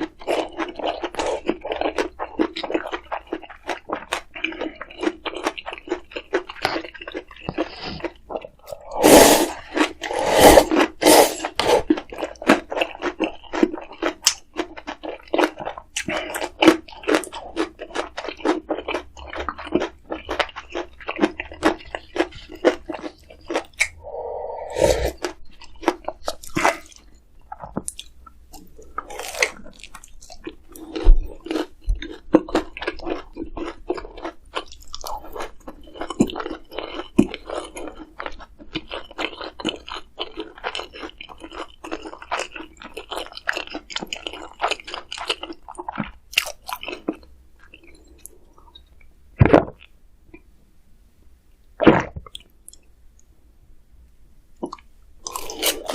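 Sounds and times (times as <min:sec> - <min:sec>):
person chewing and crunching food: 0:00.0 - 0:50.5, 0:51.8 - 0:52.9, 0:54.6 - 0:55.9.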